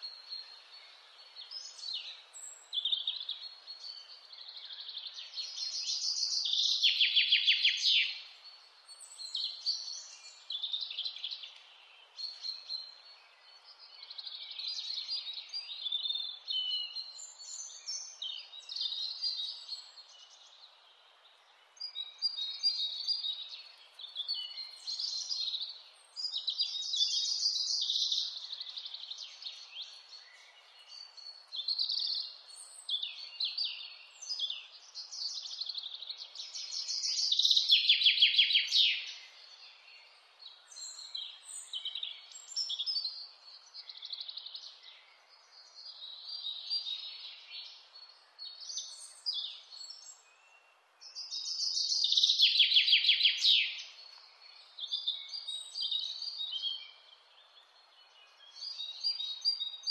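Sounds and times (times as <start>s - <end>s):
faint steady hiss: 0.0s - 59.8s
songbirds singing: 0.0s - 59.9s.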